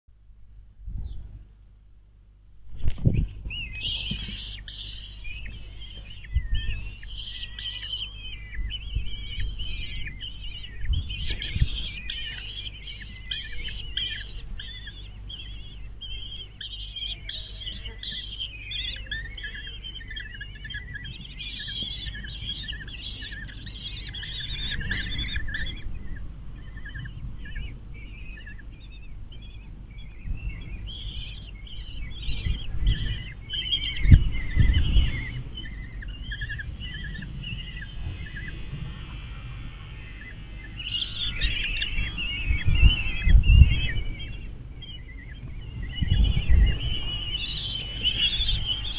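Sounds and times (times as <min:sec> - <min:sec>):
chicks chirping for food: 0:00.9 - 0:02.0, 0:02.6 - 0:48.9.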